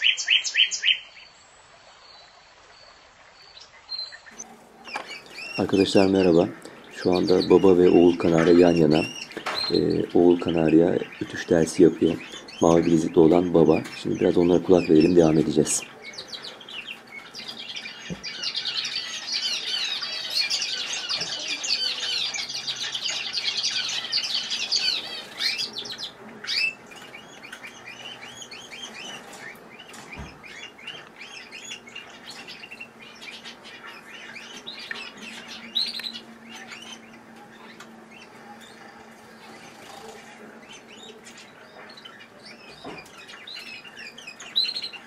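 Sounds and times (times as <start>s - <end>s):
canaries singing trills: 0.0s - 45.0s.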